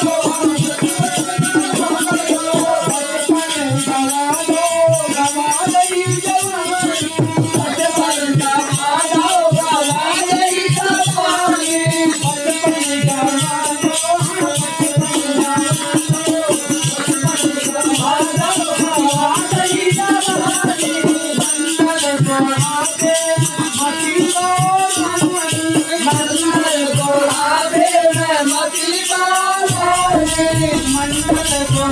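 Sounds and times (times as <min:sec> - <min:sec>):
fast drum beat: 0:00.0 - 0:27.6, 0:29.6 - 0:31.9
devotional music: 0:00.0 - 0:31.9.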